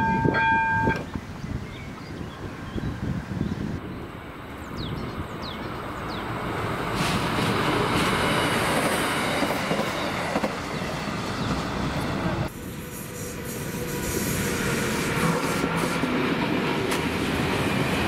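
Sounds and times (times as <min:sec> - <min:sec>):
diesel railcar passing: 0:02.4 - 0:18.0.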